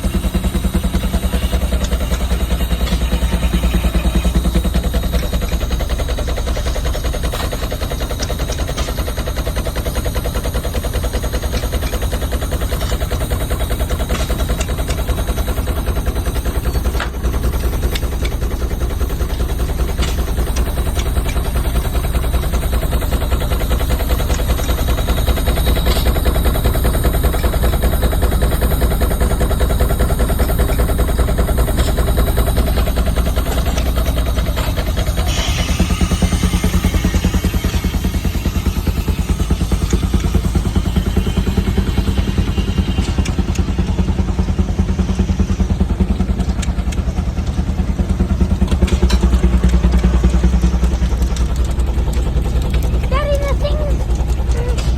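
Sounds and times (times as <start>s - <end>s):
steam engine running: 0.0s - 54.9s.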